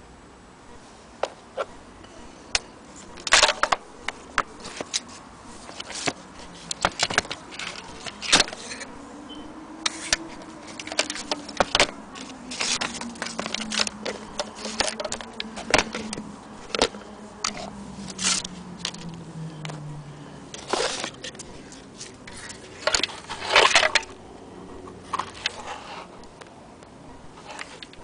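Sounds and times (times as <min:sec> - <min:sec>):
objects handled clicks and rustling: 0:02.5 - 0:08.9, 0:09.8 - 0:24.2, 0:24.8 - 0:28.0.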